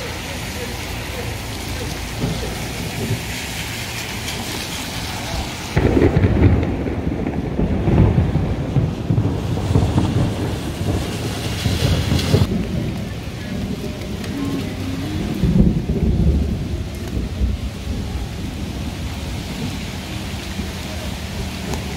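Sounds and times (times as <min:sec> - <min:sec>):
heavy rain hiss: 0:00.0 - 0:21.9.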